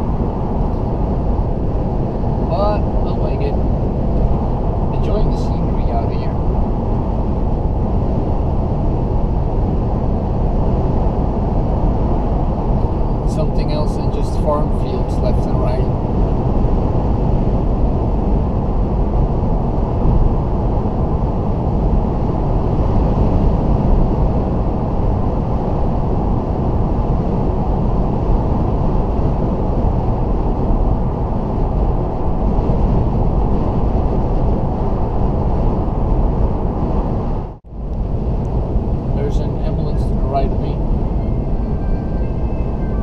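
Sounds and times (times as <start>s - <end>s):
tyre and wind noise in car: 0.0s - 43.0s.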